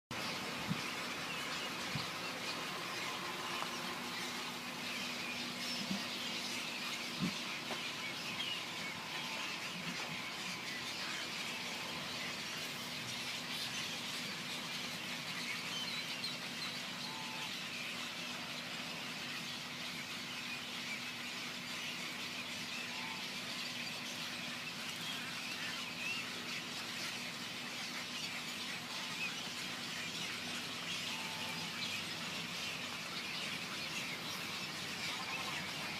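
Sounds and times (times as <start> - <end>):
flock of birds chattering: 0.1 - 35.9
lower bird calls: 0.1 - 35.9
steady low hum: 0.1 - 35.9.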